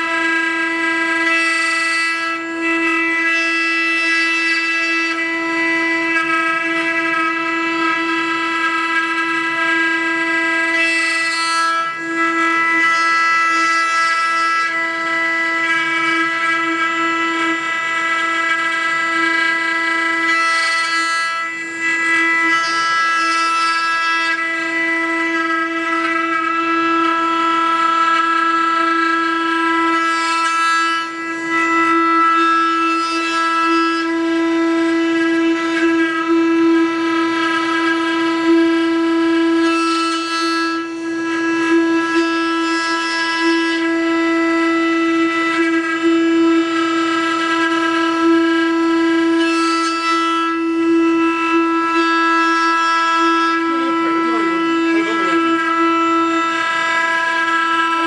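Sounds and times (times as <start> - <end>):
router bits carving wood: 0.0 - 58.0.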